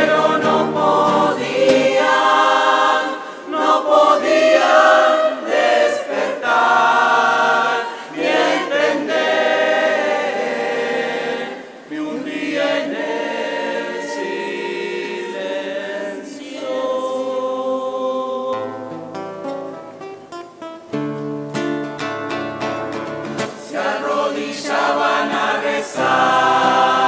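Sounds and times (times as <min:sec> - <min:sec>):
choir singing held chords: 0:00.0 - 0:19.1, 0:23.3 - 0:27.0.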